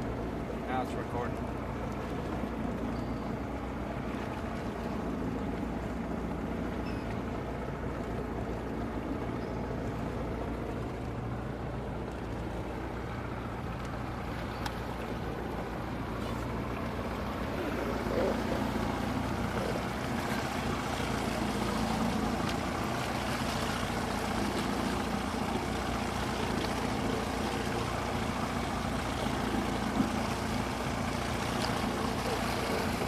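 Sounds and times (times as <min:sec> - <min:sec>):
boat engine running: 0:00.0 - 0:33.0
water noise: 0:00.0 - 0:33.0
wind: 0:00.0 - 0:33.0.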